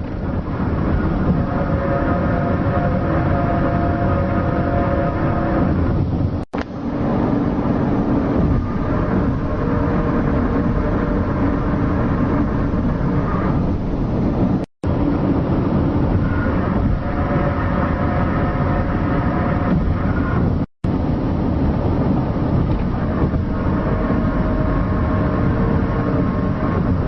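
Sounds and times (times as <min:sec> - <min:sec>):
droning tones: 0:00.0 - 0:27.0
loud low rumble: 0:00.0 - 0:27.0.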